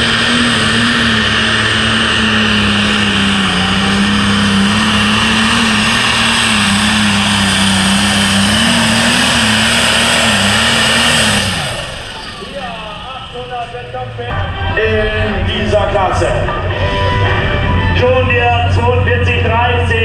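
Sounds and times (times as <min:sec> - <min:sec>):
tractor engine running flat out: 0:00.0 - 0:20.0.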